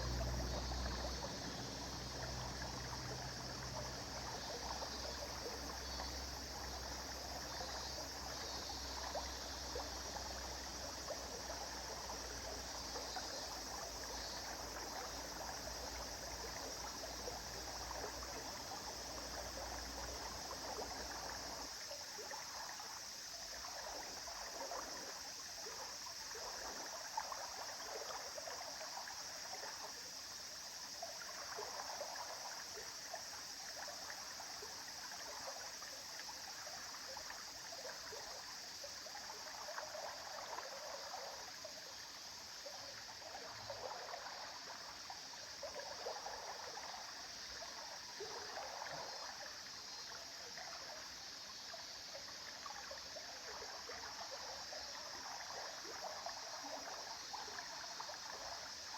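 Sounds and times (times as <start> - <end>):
river water over stones: 0.0 - 58.9.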